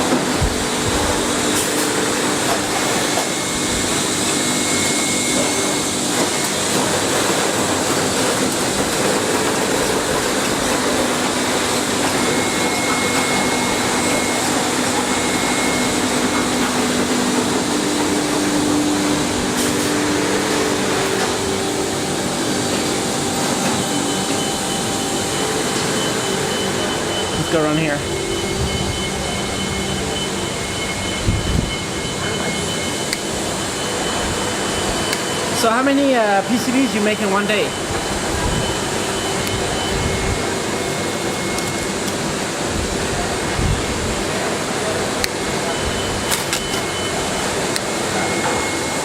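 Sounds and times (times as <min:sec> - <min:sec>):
factory machinery running: 0:00.0 - 0:49.0.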